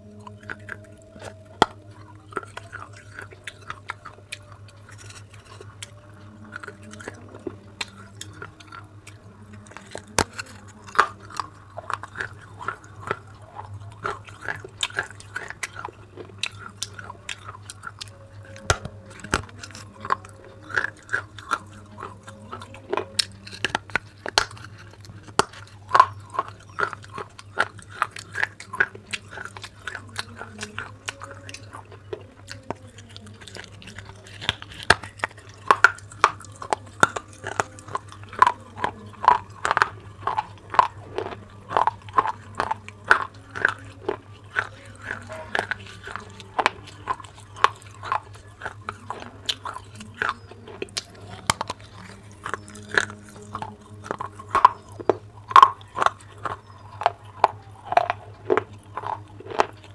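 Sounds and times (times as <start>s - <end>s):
crisp crunching bites: 0.0s - 59.9s
soft chewing: 0.0s - 59.9s.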